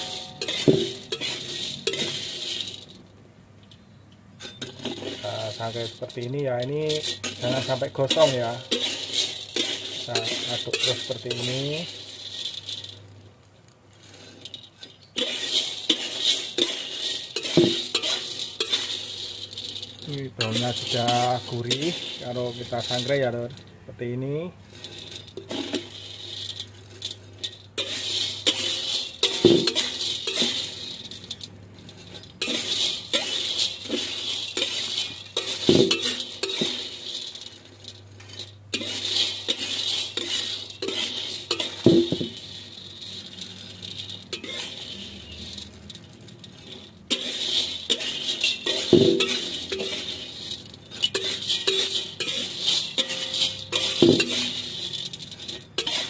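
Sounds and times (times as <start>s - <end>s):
metal spatula scraping a wok: 0.0s - 3.0s, 4.4s - 13.2s, 13.8s - 56.0s
pellets rattling against pan: 0.0s - 3.1s, 4.4s - 56.0s.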